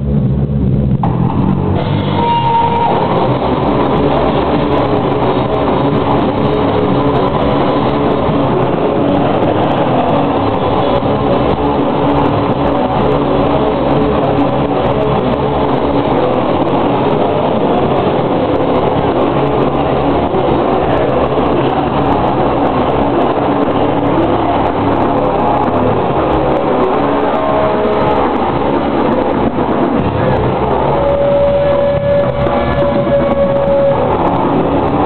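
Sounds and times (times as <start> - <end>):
live heavy rock band playing: 1.0 - 35.0.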